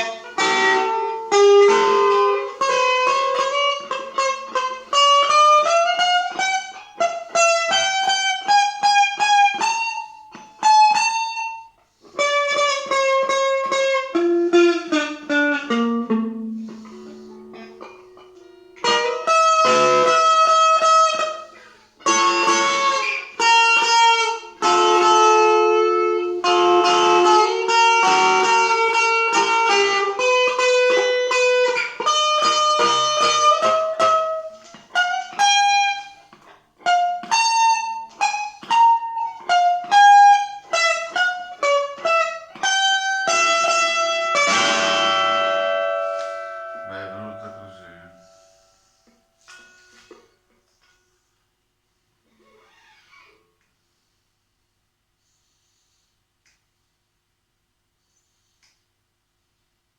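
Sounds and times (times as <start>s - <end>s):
solo guitar plucked melody: 0.0s - 48.6s.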